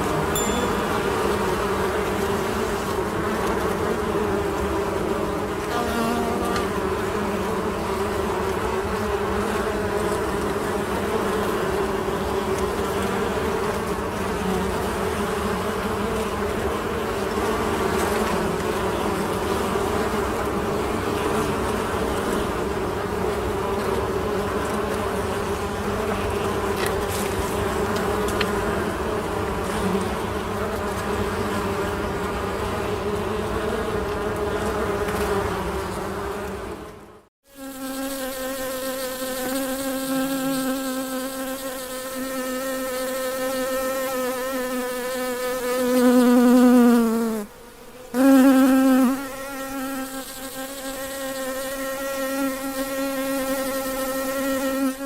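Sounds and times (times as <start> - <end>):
bees buzzing: 0.0 - 55.0
single bee buzzing close: 0.0 - 55.0.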